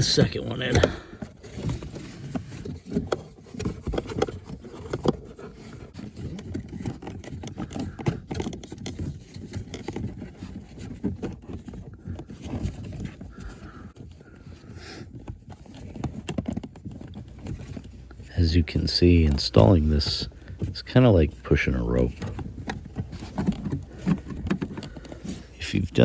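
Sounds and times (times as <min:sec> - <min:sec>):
filter scraping against plastic: 0:00.0 - 0:26.0.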